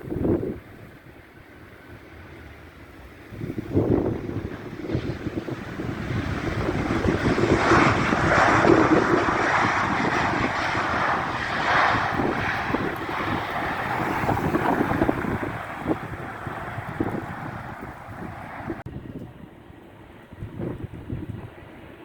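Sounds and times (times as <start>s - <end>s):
wind buffeting microphone: 0.0s - 1.3s, 3.2s - 22.0s
jet aircraft passing: 0.0s - 22.0s.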